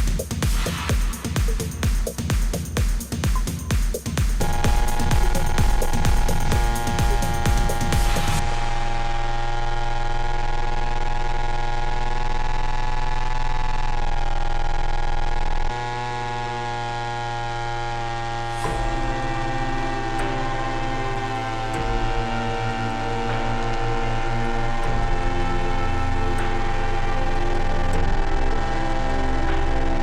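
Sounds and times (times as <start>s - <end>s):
sustained synthesizer chords: 0.0s - 30.0s.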